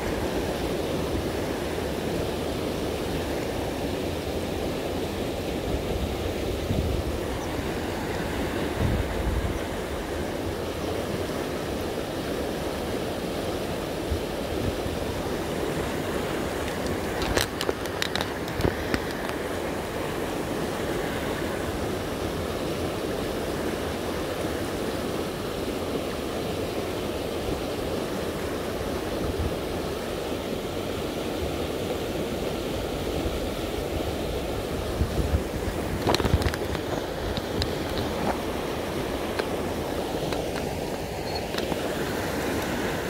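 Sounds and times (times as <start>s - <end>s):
fast river rushing: 0.0s - 43.0s.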